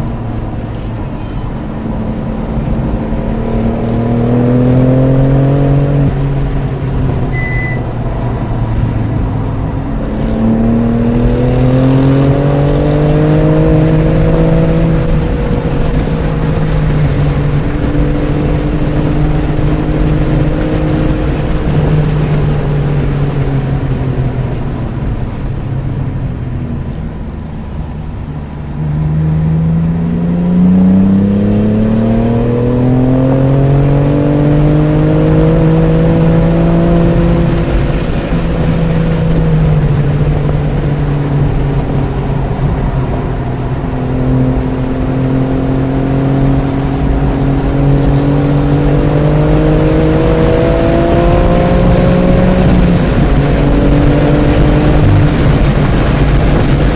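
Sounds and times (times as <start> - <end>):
car engine accelerating and braking: 0.0 - 56.9.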